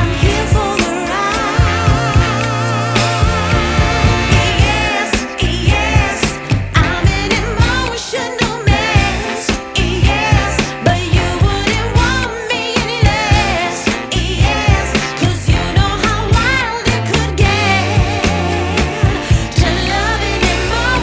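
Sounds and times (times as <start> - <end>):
song with sung melody and beat: 0.0 - 21.0.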